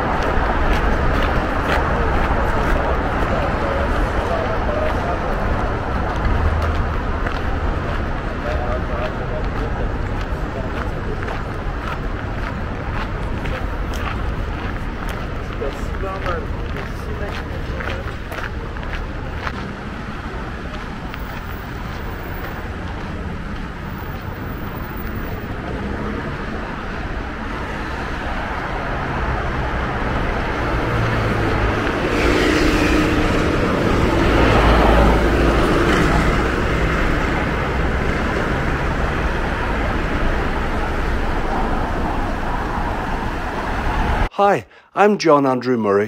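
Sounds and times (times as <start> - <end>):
passing cars: 0.0 - 44.3.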